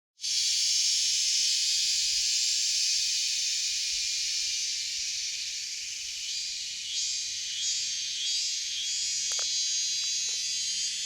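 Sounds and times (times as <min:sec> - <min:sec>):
insect chorus drone: 0:00.2 - 0:11.0.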